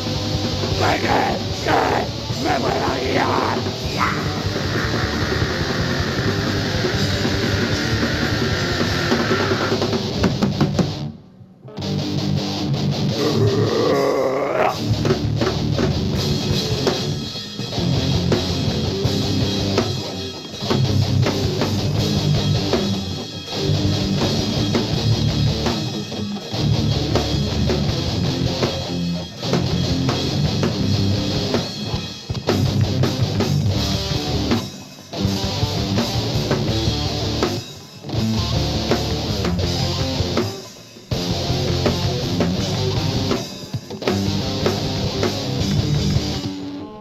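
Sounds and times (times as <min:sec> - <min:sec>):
drum kit: 0:00.0 - 0:11.2, 0:11.8 - 0:47.0
electric guitar: 0:00.0 - 0:47.0.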